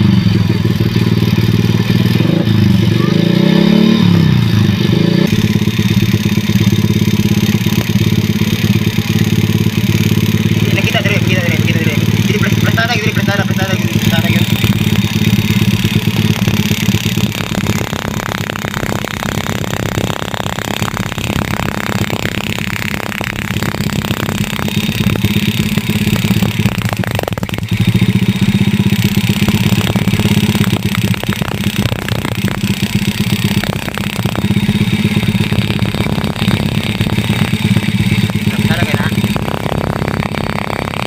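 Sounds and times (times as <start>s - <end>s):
motorcycle engine turning over: 0.0s - 41.0s.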